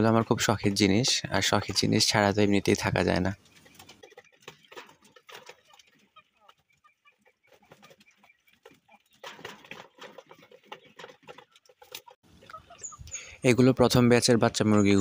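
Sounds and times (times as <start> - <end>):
chickens clucking softly: 0.0 - 13.8.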